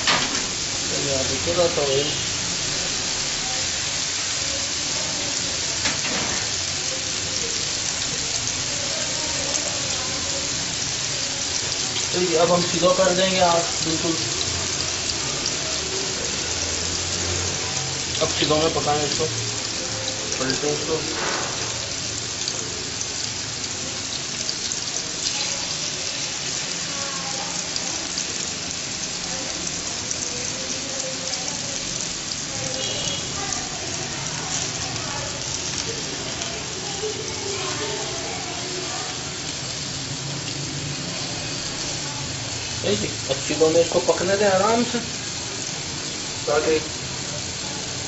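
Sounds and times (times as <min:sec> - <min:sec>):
chicken sizzling on grill pan: 0:00.0 - 0:48.0.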